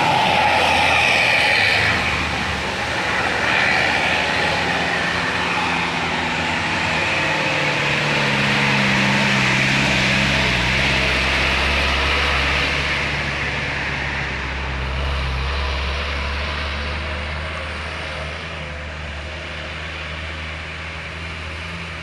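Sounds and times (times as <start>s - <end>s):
heavy diesel engine droning: 0.0s - 22.0s
road noise: 0.0s - 22.0s.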